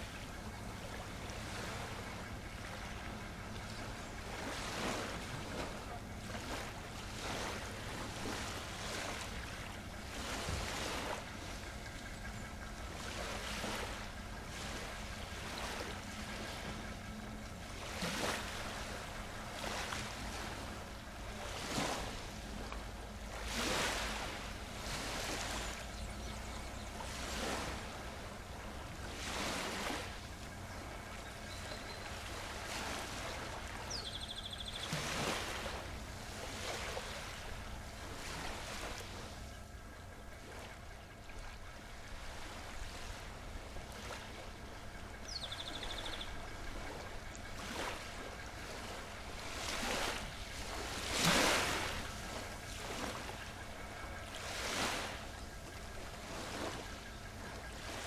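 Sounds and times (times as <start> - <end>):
sea waves washing in: 0.0 - 34.0, 34.6 - 40.8, 41.5 - 58.0.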